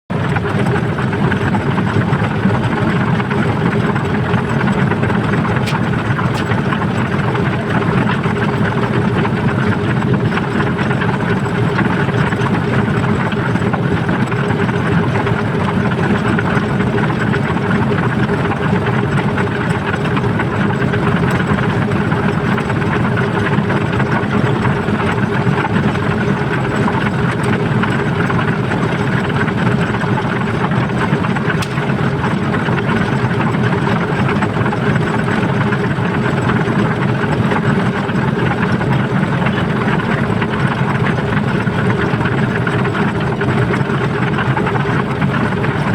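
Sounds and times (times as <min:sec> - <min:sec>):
loud machine engine running: 0:00.1 - 0:45.9.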